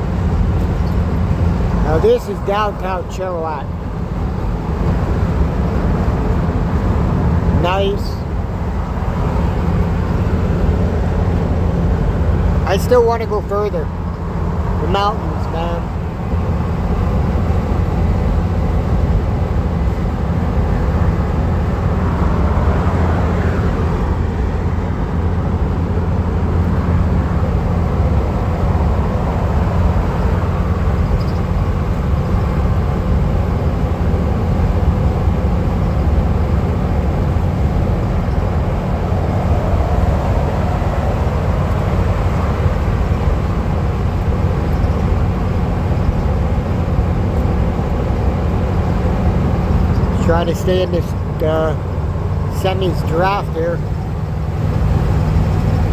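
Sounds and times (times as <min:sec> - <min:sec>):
van engine and tyres cruising: 0:00.0 - 0:55.9.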